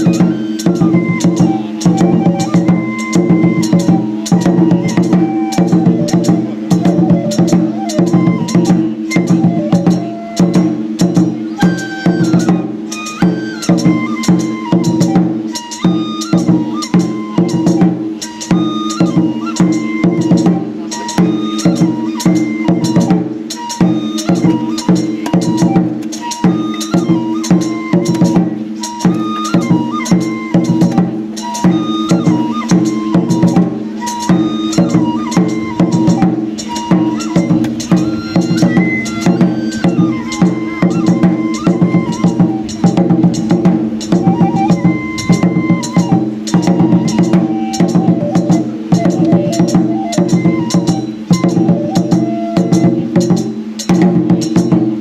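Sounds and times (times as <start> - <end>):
drums beaten in fast rhythm: 0.0 - 55.0
flute melody: 0.0 - 55.0.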